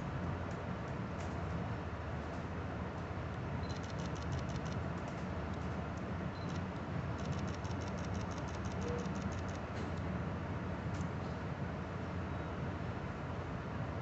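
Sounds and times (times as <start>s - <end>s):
train interior low rumble: 0.0s - 14.0s.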